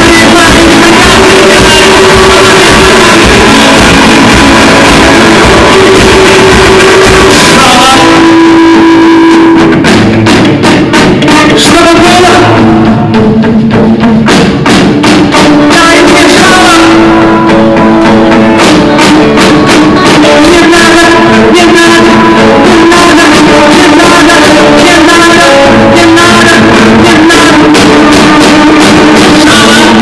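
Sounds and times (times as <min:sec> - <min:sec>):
drum kit: 0:00.0 - 0:30.0
electric guitars: 0:00.0 - 0:30.0.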